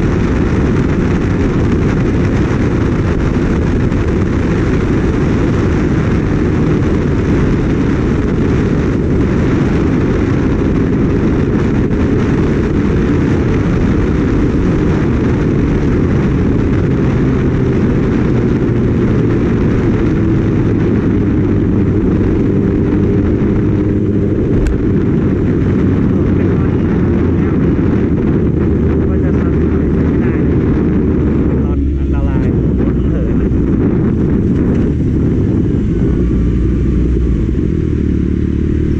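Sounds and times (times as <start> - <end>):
motorcycle engine: 0.0 - 38.9
wind rushing over microphone: 0.0 - 38.9.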